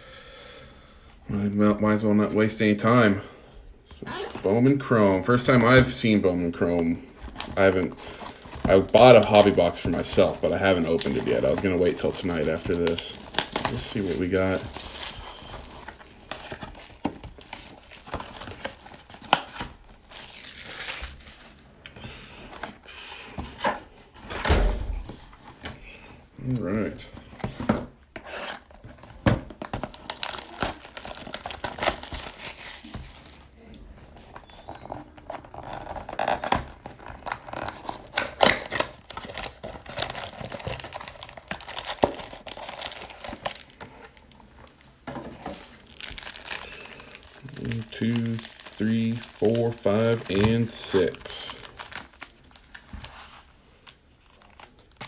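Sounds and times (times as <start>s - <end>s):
plastic wrapping crinkling and tearing: 4.0s - 21.8s, 28.2s - 55.0s.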